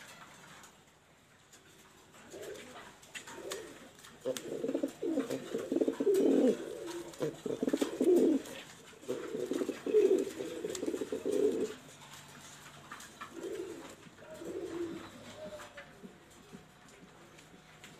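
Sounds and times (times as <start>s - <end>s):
pigeons cooing: 2.1s - 17.8s.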